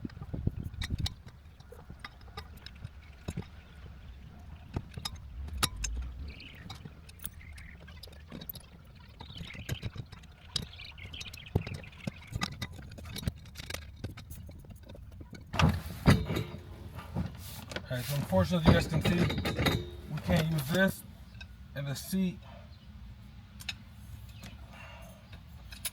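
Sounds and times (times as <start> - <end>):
hand tools clicking and clinking: 0.7 - 21.5.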